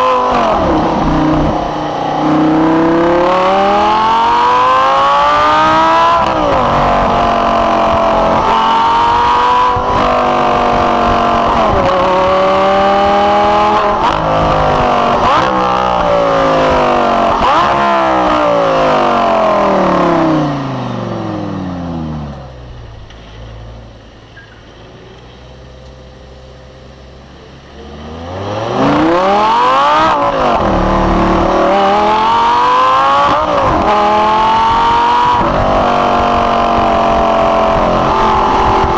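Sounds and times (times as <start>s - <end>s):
sports car engine accelerating: 0.0s - 23.2s, 27.3s - 38.9s.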